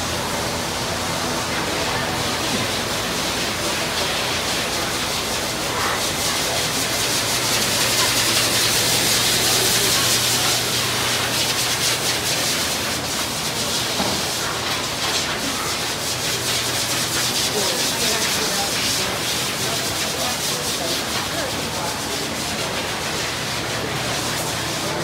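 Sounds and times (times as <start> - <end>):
ventilation fans rushing air: 0.0 - 25.0.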